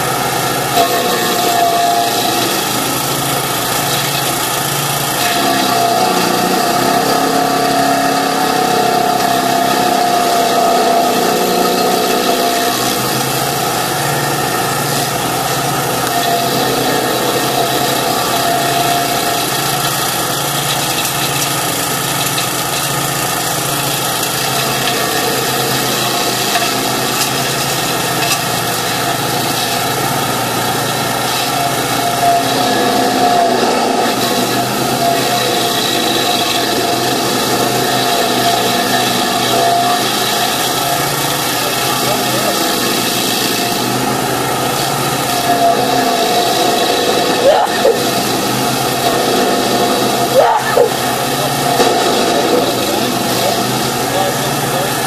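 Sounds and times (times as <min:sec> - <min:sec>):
mini loader engine running: 0:00.0 - 0:55.0.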